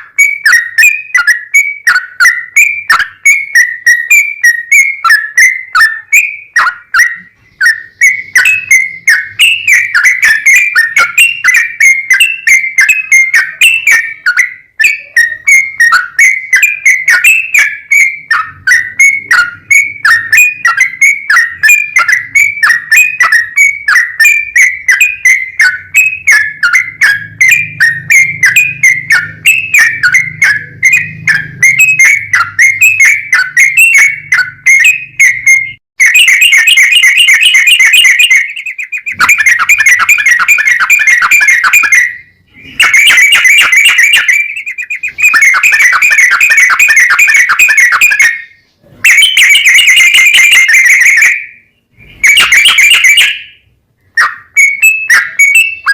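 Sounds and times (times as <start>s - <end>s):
bulbul singing sharp notes and trills: 0.0s - 55.9s.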